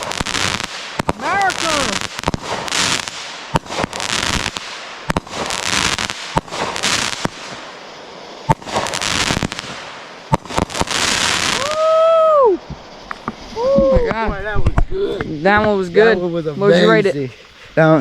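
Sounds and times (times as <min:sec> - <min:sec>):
fireworks bangs: 0:00.0 - 0:17.2
fireworks crackling hiss: 0:00.0 - 0:18.0.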